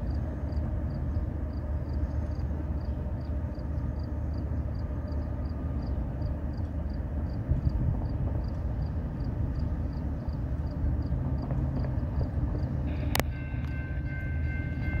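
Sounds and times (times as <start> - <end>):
diesel freight train rumble: 0.0 - 15.0.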